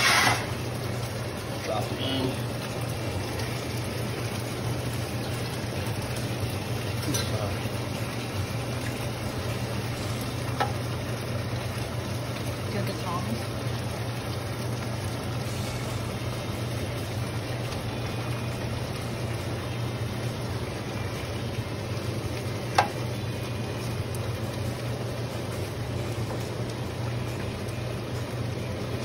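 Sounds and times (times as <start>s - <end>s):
sauce simmering hiss: 0.0s - 29.0s.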